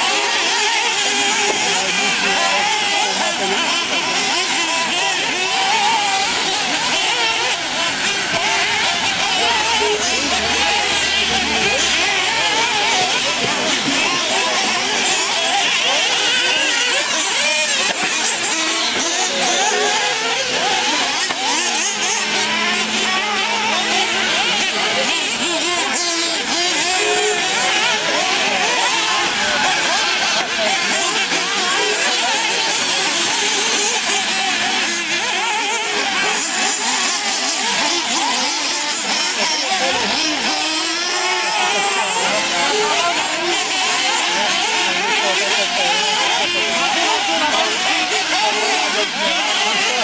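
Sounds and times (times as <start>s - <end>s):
rc buggy engines whining: 0.0s - 50.0s.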